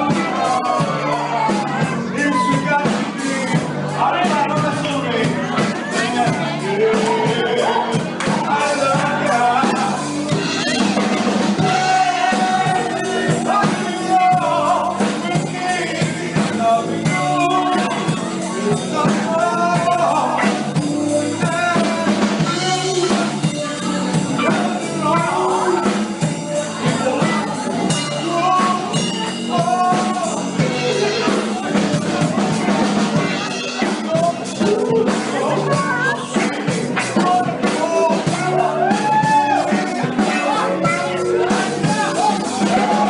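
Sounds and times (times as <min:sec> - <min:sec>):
person singing: 0:00.0 - 0:43.0
soul band playing: 0:00.0 - 0:43.0.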